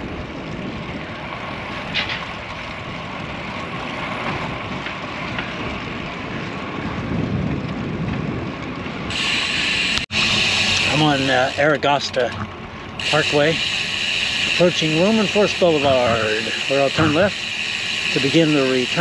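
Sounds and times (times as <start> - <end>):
wind and road noise from bike: 0.0 - 19.0.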